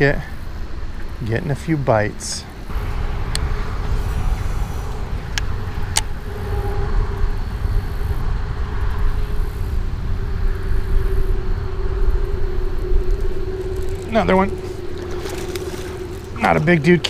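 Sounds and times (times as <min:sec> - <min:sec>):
faint steady hum: 0:00.0 - 0:17.0
wind buffeting microphone: 0:00.0 - 0:17.0.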